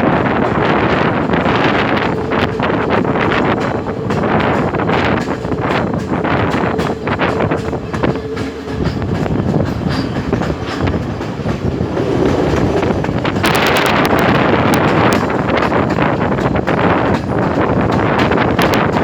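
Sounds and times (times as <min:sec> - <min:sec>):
train running on rails: 0:00.0 - 0:19.0.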